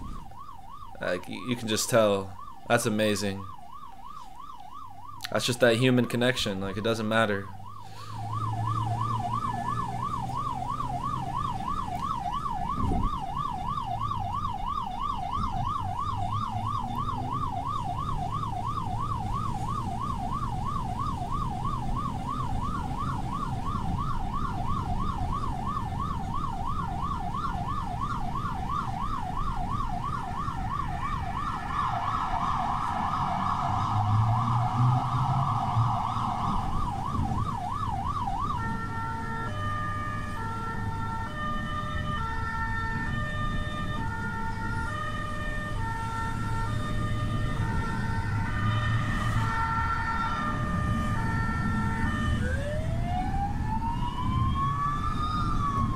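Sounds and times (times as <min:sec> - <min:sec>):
ambulance siren warbling: 0:00.0 - 0:55.9
second siren: 0:00.0 - 0:55.9
vehicle rumble: 0:00.0 - 0:55.9.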